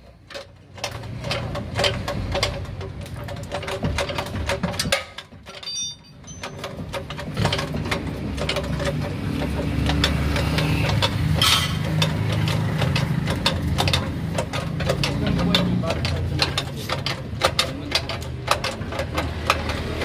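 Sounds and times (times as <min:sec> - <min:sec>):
rapid irregular clicking: 0:00.0 - 0:20.0.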